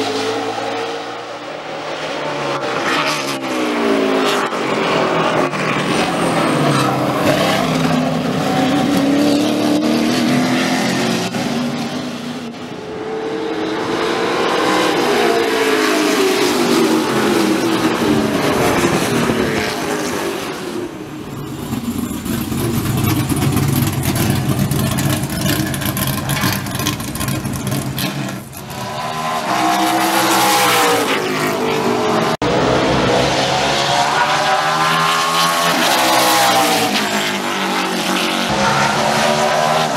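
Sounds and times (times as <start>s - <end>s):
racing engines revving: 0.0s - 39.9s.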